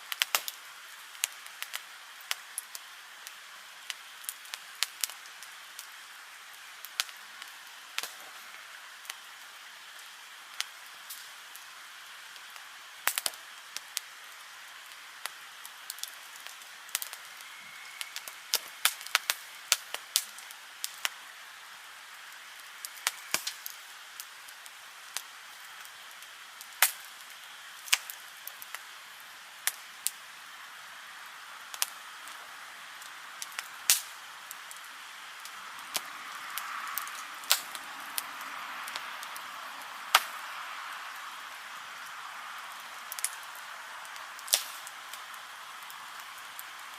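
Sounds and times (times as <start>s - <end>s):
steady hiss: 0.0s - 46.9s
wood fire crackling: 0.0s - 46.9s.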